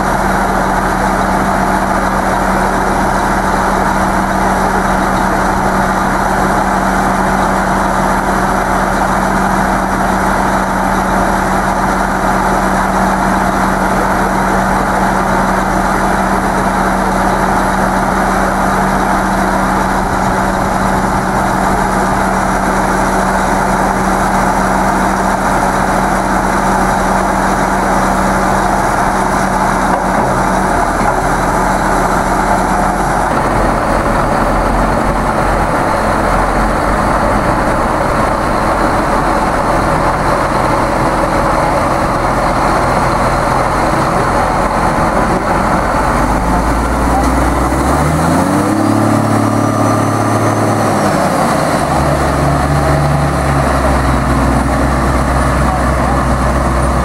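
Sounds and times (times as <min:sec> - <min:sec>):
tractor diesel engines running: 0:00.0 - 0:57.0.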